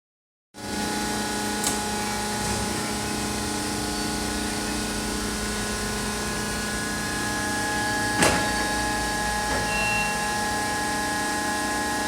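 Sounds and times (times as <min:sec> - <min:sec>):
baler machine hum: 0:00.7 - 0:12.0.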